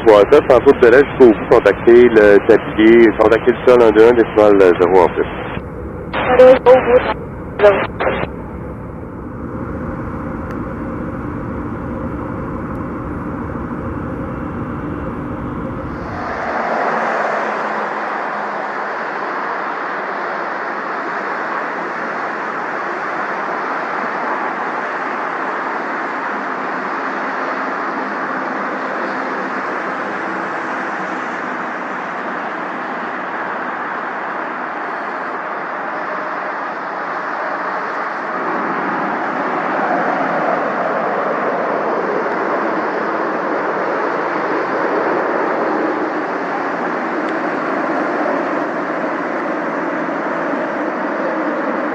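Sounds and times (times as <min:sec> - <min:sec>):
jet engine rush: 0:00.0 - 0:51.9
jet engines humming: 0:00.0 - 0:51.9.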